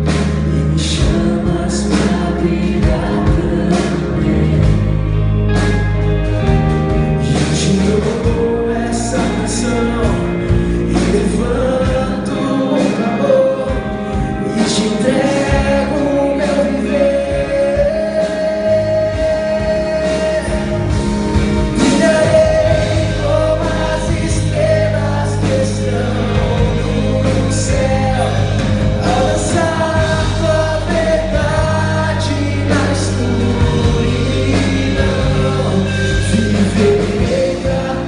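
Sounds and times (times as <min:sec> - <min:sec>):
band playing worship song: 0:00.0 - 0:38.0.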